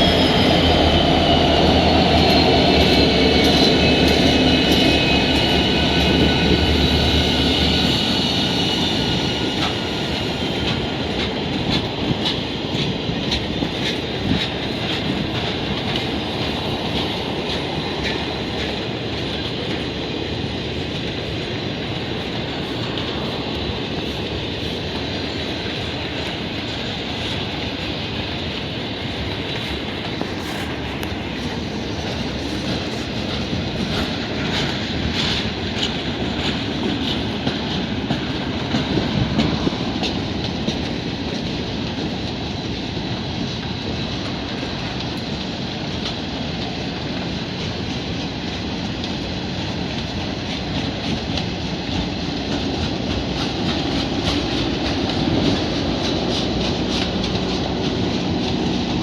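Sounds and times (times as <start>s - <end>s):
train wheels clattering over rail joints: 0.2s - 59.0s.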